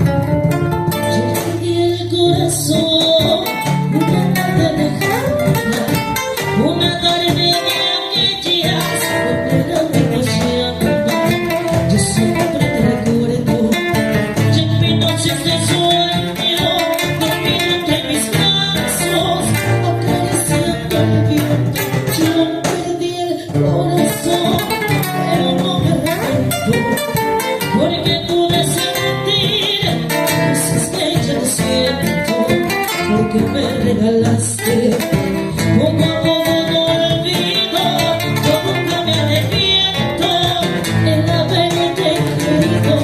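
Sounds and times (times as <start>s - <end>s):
band playing live: 0.0s - 43.0s
guitars: 0.0s - 43.0s.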